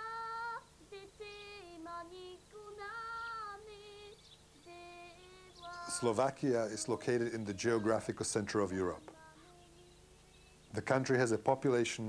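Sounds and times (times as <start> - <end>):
high solo voice singing: 0.0 - 10.3.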